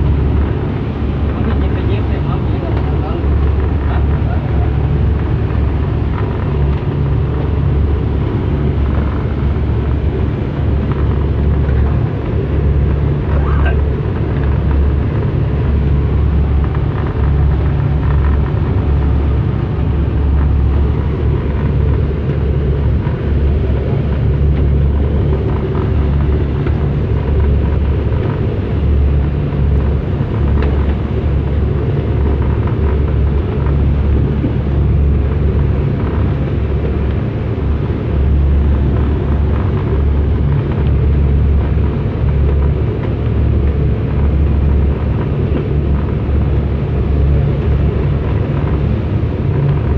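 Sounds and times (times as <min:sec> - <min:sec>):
boat engine low rumble: 0:00.0 - 0:49.9
wind: 0:00.0 - 0:49.9.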